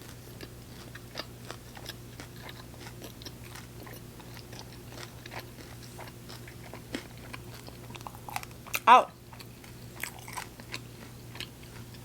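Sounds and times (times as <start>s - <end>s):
crunchy chewing: 0.0s - 12.0s
low steady hum: 0.0s - 12.0s.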